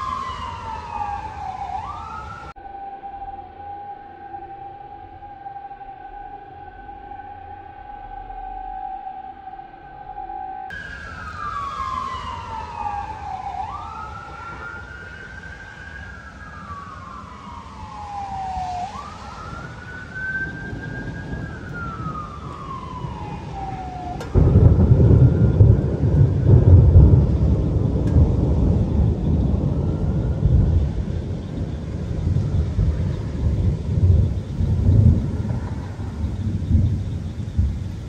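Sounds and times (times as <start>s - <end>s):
thunder rumbling: 0.0s - 3.8s, 10.2s - 38.0s
ambulance siren wailing: 0.0s - 36.9s.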